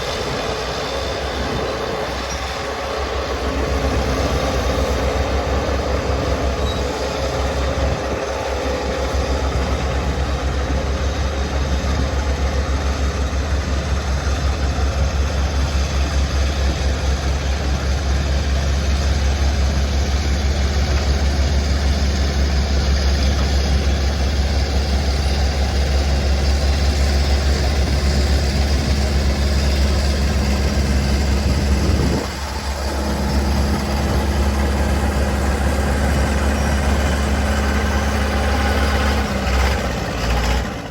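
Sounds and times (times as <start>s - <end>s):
diesel engine low rumble: 0.0s - 40.9s.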